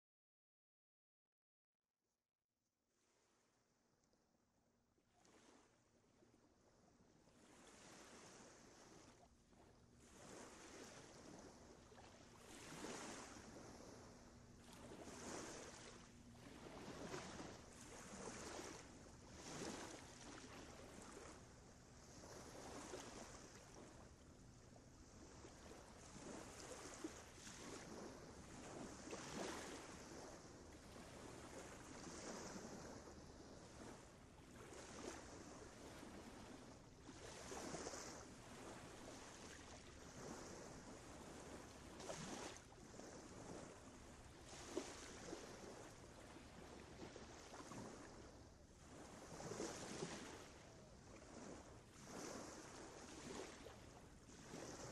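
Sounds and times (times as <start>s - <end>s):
faint sea waves washing in: 3.0s - 54.9s.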